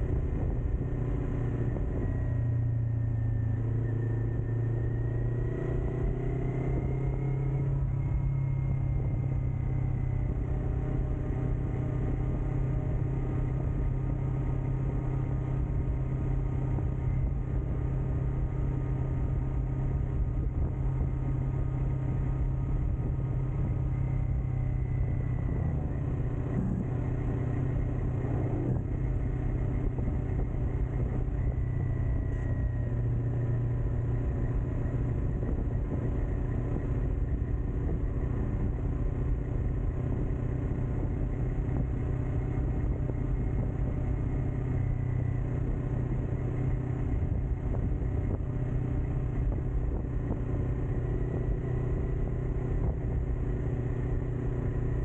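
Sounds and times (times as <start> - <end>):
wind noise on microphone: 0.0 - 3.5, 4.2 - 55.0
motorcycle engine running: 0.0 - 55.0.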